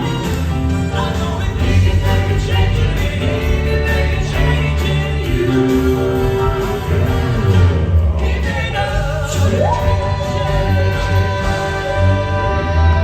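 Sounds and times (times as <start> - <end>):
band with strong bass: 0.0 - 13.0
gospel quartet singing in harmony: 0.0 - 13.0.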